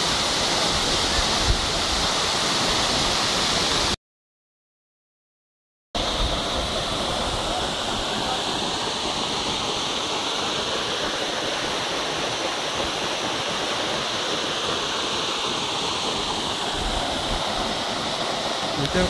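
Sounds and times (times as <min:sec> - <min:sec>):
waterfall rushing: 0:00.0 - 0:04.0, 0:06.0 - 0:19.0.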